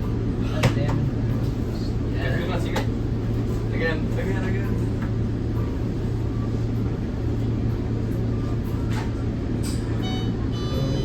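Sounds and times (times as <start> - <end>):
train cabin hum and rumble: 0.0 - 11.0.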